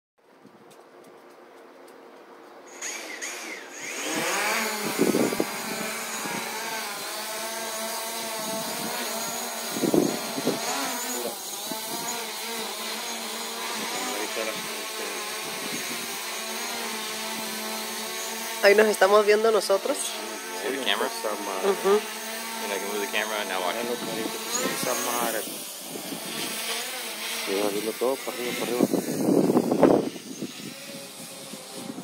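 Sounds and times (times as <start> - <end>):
drone propellers buzzing: 2.6 - 32.0.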